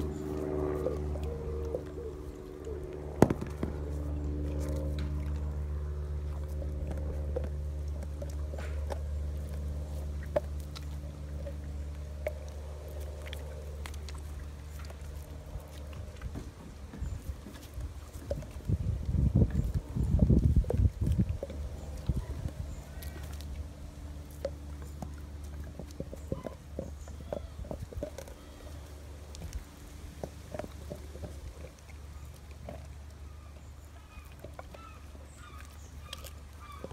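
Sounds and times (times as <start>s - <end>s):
dog teeth scraping bone: 0.0s - 36.9s
steady low hum: 0.0s - 36.9s.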